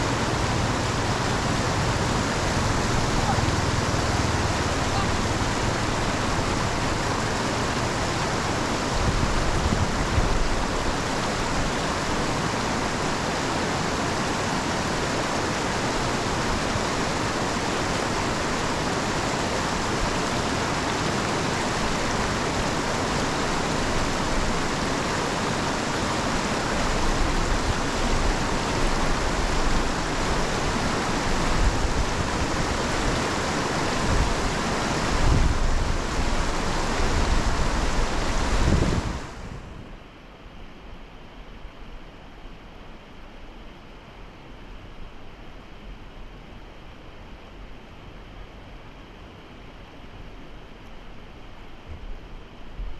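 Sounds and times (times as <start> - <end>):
rushing water: 0.0 - 52.9.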